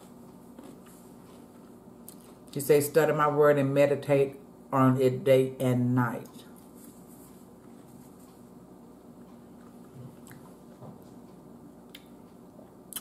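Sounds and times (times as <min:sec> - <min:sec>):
low steady room hum: 0:00.0 - 0:13.0.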